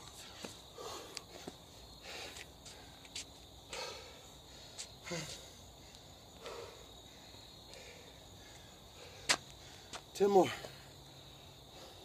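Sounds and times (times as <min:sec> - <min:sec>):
crickets chirping: 0:00.0 - 0:12.0
man breathing heavily: 0:00.0 - 0:12.0.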